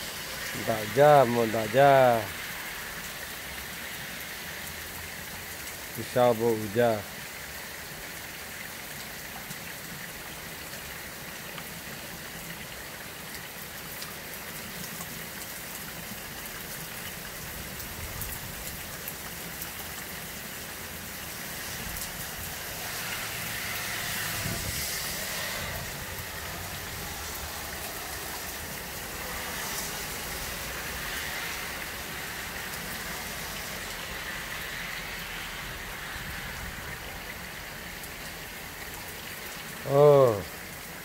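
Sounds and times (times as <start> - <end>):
heavy rain on grass and pavement: 0.0 - 41.0.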